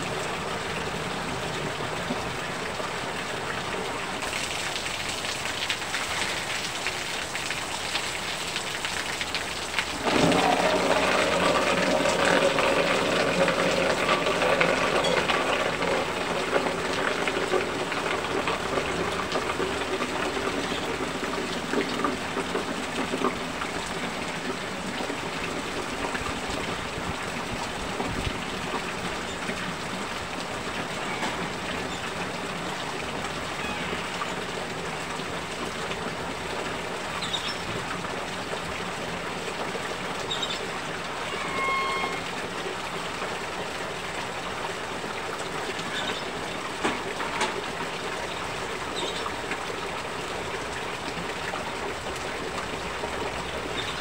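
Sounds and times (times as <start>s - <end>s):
heavy rain falling: 0.0s - 54.0s
water streaming from roof edge: 0.0s - 54.0s.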